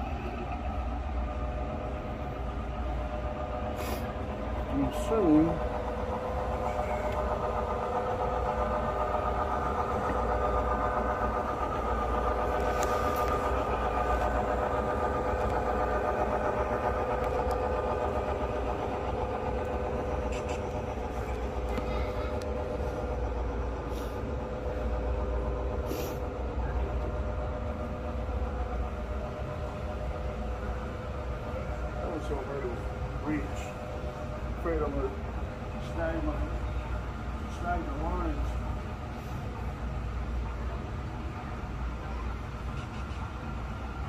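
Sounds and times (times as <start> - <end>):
model train droning hum: 0.0 - 44.0.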